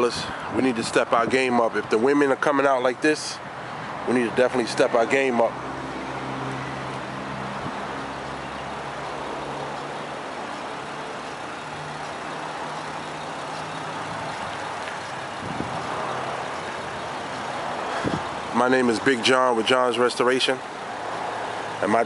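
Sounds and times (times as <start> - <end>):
outdoor road noise: 0.0 - 22.0
vehicle engine humming: 1.8 - 22.0.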